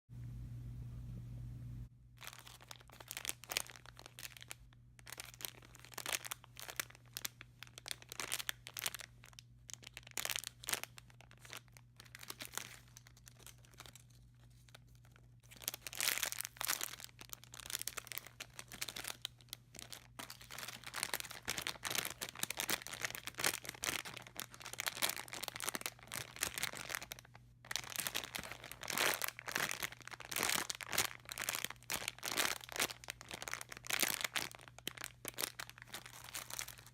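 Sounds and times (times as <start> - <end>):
packaging crinkling: 2.2 - 36.9.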